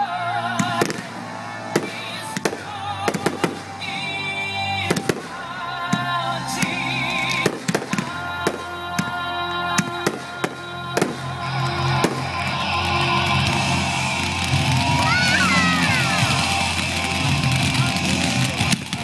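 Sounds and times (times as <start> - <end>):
firework comets hissing: 0.0 - 19.0
fireworks bangs: 0.5 - 19.0.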